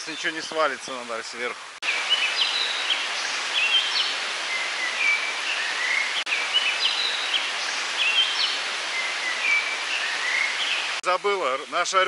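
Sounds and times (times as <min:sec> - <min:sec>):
birds chirping: 0:00.0 - 0:11.0
river rushing: 0:00.0 - 0:11.0.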